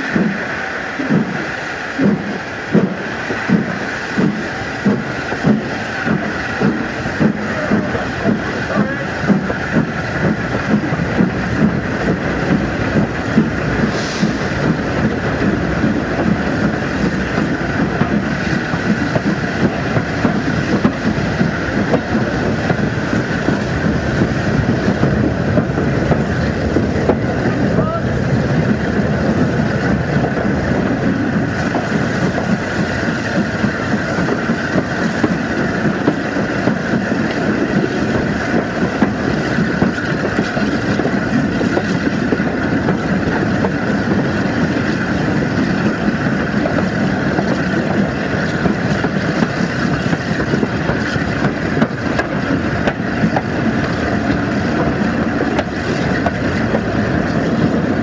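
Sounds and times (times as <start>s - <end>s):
steam locomotive running: 0.0s - 58.0s
wheels on rails: 0.0s - 58.0s.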